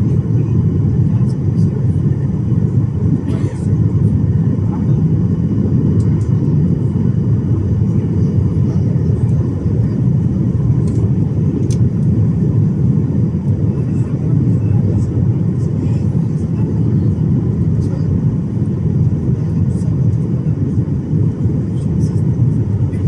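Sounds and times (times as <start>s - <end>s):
airplane engines roaring in cabin: 0.0s - 23.0s.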